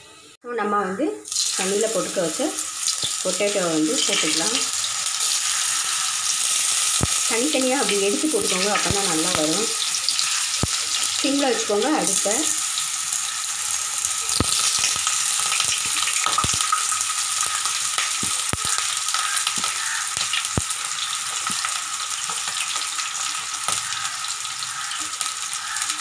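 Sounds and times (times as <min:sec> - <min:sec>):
potato slices sizzling in oil: 0:01.2 - 0:26.0
oil popping and crackling: 0:01.3 - 0:26.0.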